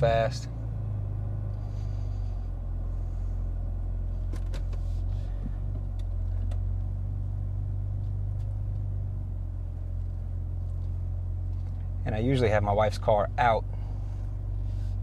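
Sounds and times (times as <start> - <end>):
car engine running low: 0.0 - 15.0.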